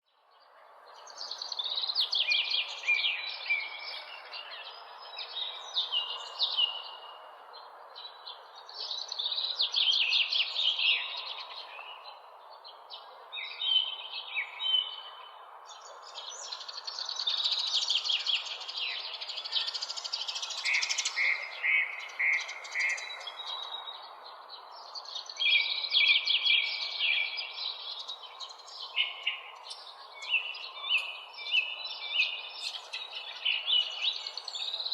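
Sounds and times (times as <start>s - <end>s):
songbirds chirping and singing: 0.0s - 34.9s.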